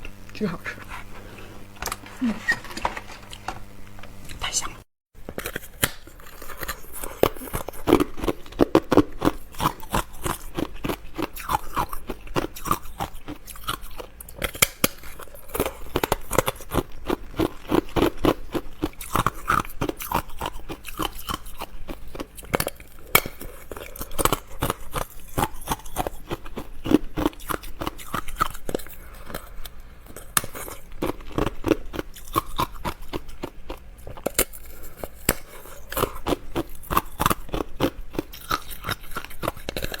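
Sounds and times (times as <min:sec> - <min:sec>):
crunchy biscuit chewing: 0:00.0 - 0:40.0.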